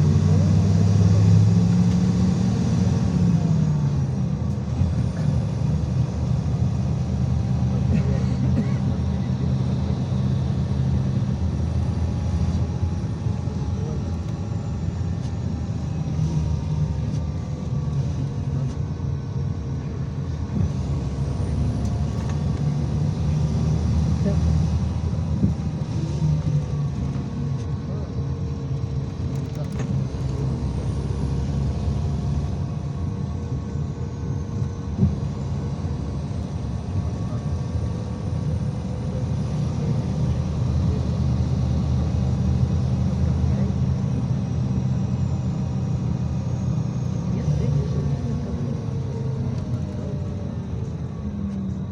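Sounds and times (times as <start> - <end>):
bus engine and road drone: 0.0 - 51.9.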